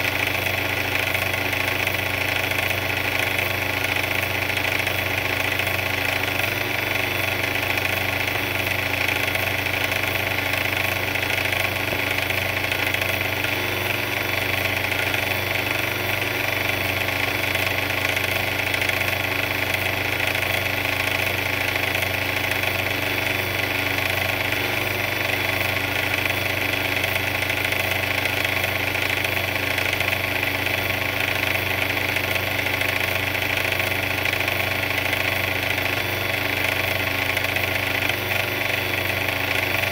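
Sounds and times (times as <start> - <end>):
mixer motor hum and whine: 0.0 - 39.9.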